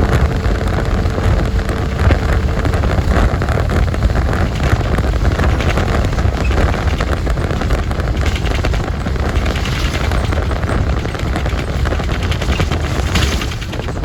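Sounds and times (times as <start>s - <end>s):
fast crackling rattle: 0.0s - 14.0s
vehicle rumble: 0.0s - 14.0s
wind buffeting microphone: 0.0s - 14.0s.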